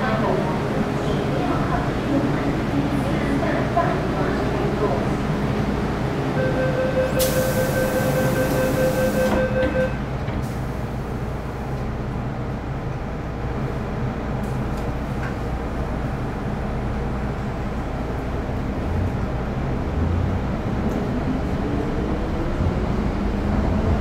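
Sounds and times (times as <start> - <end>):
rail vehicle rumbling: 0.0 - 24.0.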